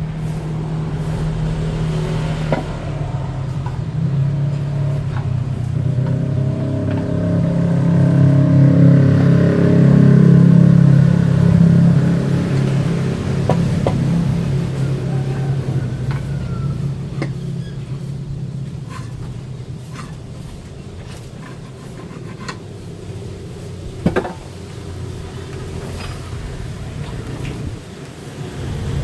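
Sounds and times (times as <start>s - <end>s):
low motor hum: 0.0s - 29.0s.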